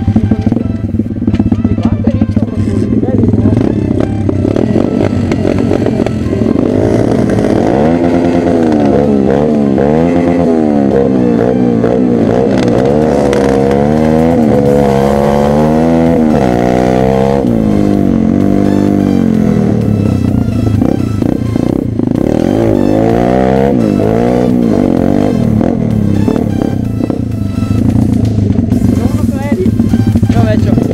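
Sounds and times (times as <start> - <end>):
motorbike engine revving: 0.0 - 30.9.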